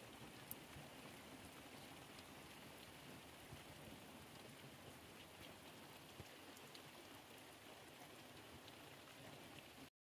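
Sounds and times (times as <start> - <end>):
rain on wet ground: 0.0 - 9.9.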